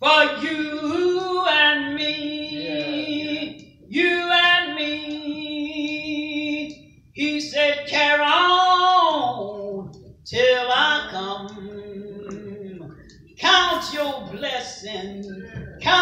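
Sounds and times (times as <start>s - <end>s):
elderly woman singing unaccompanied: 0.0s - 16.0s.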